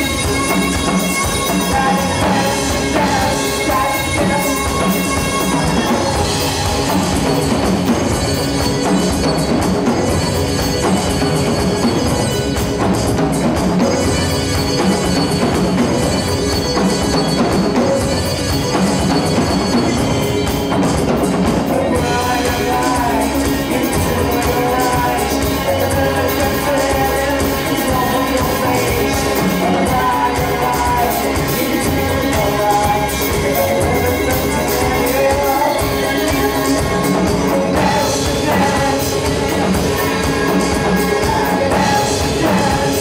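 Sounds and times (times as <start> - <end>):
drum kit beat: 0.0 - 43.0
keyboard: 0.0 - 43.0.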